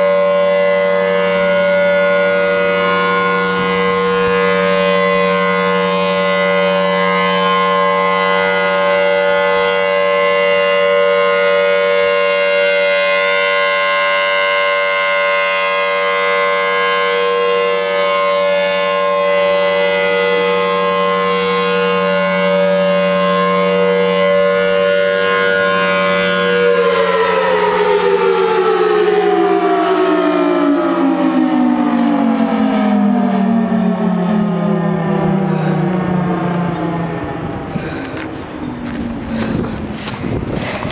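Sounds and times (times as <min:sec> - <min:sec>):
outdoor warning siren: 0:00.0 - 0:40.9.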